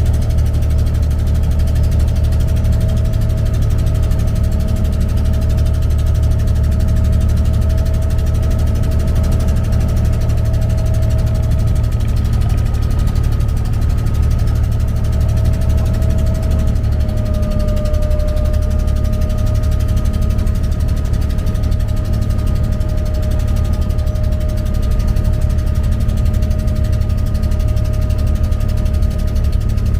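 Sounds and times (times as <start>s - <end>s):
diesel engine running: 0.0s - 29.9s
engine whine: 0.0s - 29.9s.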